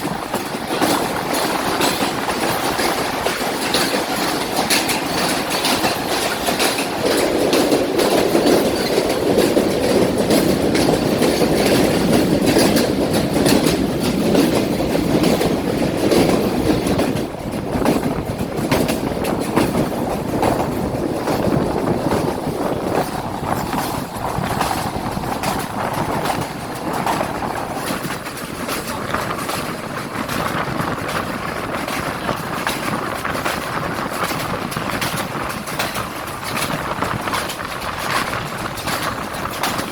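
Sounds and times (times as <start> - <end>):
train rumbling on rails: 0.0 - 39.9
wheel clatter over track: 0.0 - 39.9.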